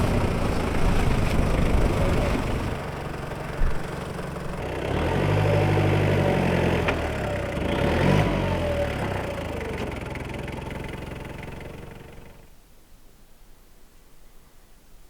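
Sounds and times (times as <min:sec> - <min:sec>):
vehicle engine running: 0:00.0 - 0:12.5.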